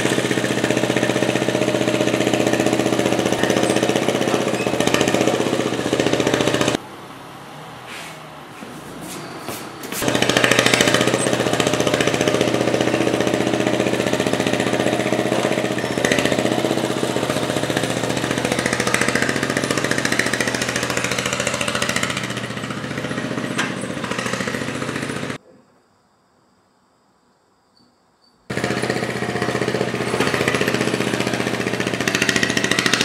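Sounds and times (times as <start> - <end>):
tractor engine pulsing: 0.0 - 6.8, 9.8 - 25.4, 28.5 - 33.0.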